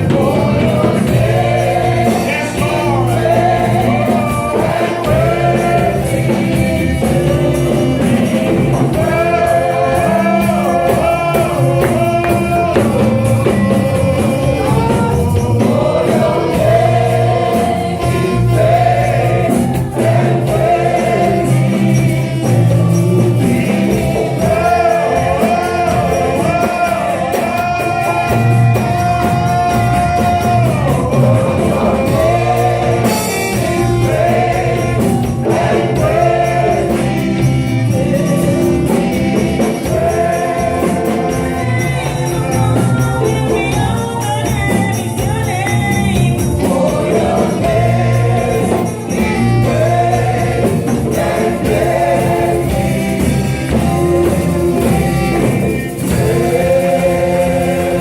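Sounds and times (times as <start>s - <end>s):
band accompaniment: 0.0s - 58.0s
gospel singing voices: 0.0s - 58.0s.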